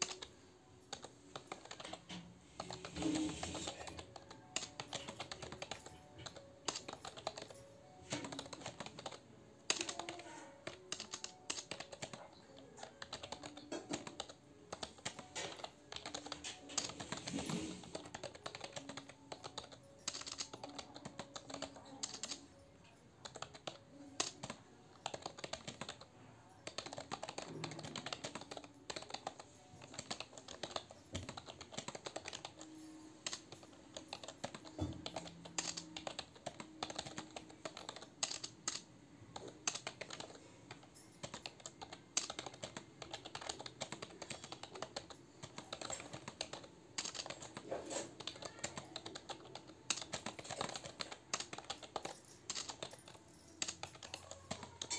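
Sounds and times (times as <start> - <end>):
fast keyboard typing: 0.0 - 54.9.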